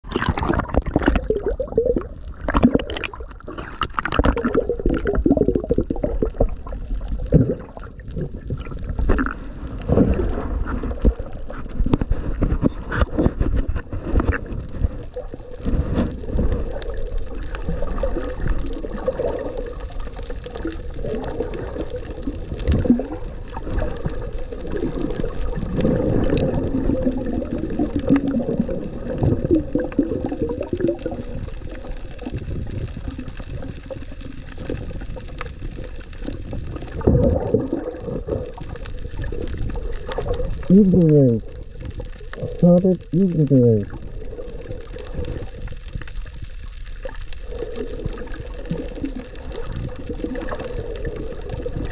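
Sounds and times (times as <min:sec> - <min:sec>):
water gurgling underwater: 0:00.0 - 0:51.9.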